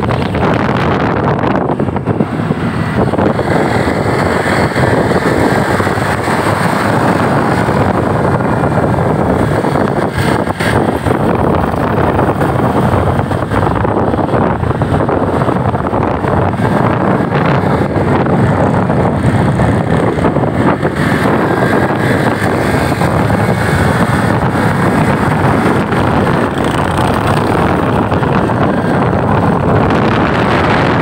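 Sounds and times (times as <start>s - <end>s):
road vehicle running noise: 0.0s - 31.0s
wind buffeting microphone: 0.0s - 31.0s.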